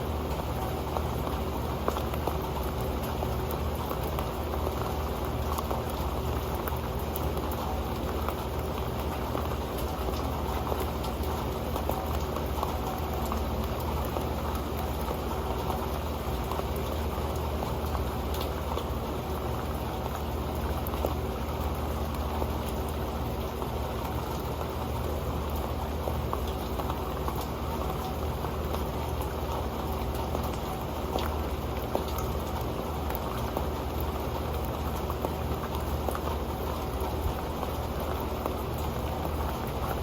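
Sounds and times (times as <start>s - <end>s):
rain drumming on metal pan: 0.0s - 40.0s.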